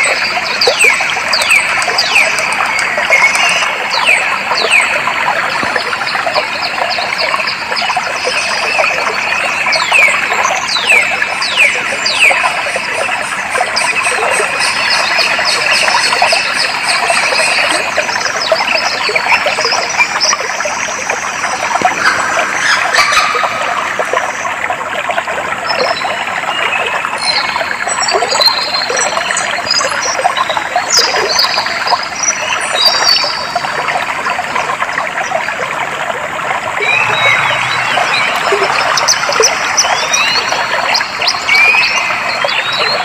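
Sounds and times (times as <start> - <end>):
water flowing and trickling: 0.0 - 43.0.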